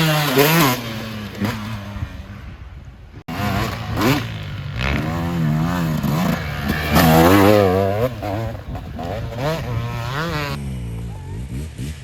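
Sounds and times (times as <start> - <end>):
dirt bike engine revving: 0.0 - 2.4, 3.3 - 12.0.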